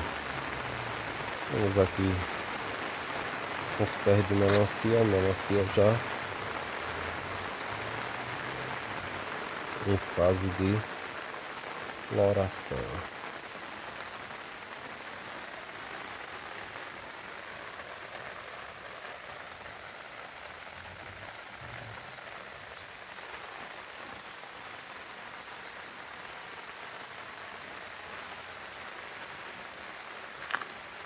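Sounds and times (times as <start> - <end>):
light rain pattering: 0.0 - 31.0.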